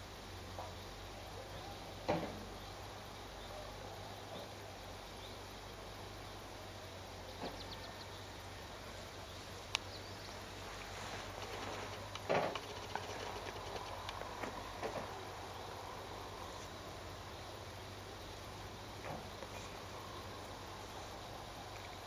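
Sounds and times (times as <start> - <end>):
low hum and hiss: 0.0 - 22.0.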